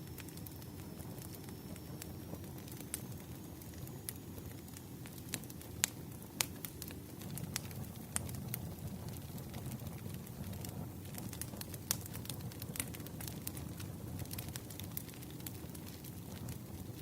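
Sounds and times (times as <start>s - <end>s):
campfire crackling and popping: 0.0s - 17.0s
low rumble of flames: 0.0s - 17.0s.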